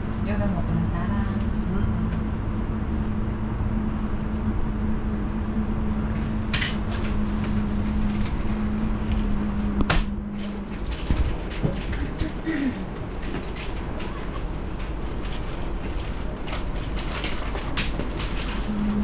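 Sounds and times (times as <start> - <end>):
low rumble: 0.0 - 17.2
mechanical hum: 0.0 - 19.0.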